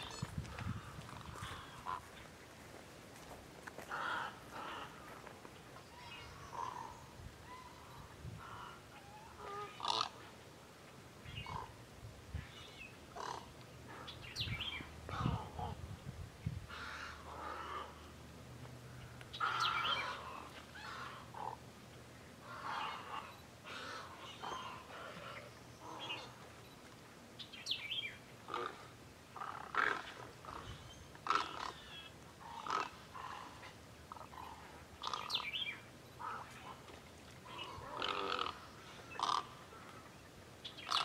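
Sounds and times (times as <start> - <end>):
wading birds calling: 0.0 - 2.6, 3.8 - 15.8, 16.6 - 26.7, 27.4 - 41.0.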